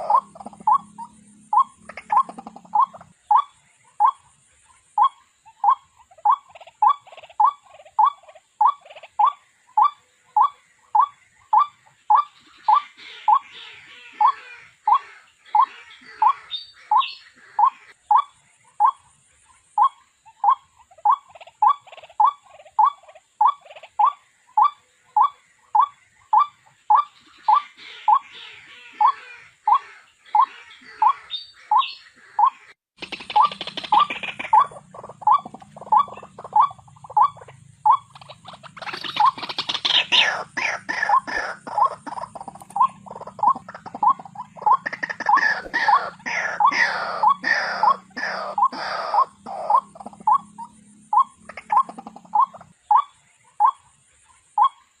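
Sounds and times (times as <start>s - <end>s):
high busy bird calls: 0.0s - 55.0s.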